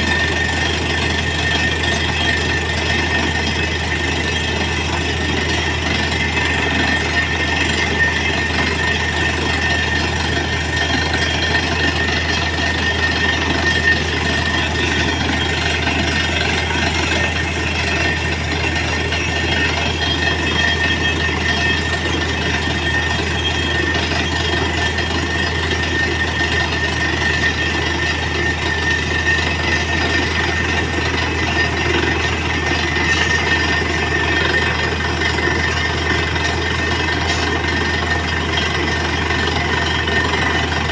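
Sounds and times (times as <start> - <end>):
diesel engine running under load: 0.0 - 40.9
high whine: 0.0 - 40.9.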